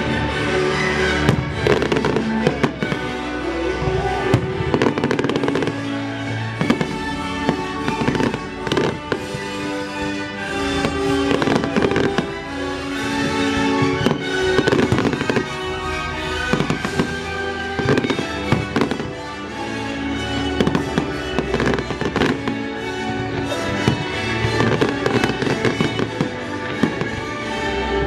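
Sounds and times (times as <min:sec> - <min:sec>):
fireworks bursting and banging: 0:00.0 - 0:28.0
orchestral music: 0:00.0 - 0:28.0.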